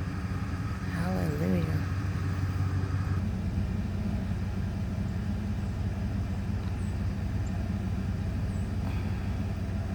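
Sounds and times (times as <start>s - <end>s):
low motor hum: 0.0s - 9.9s.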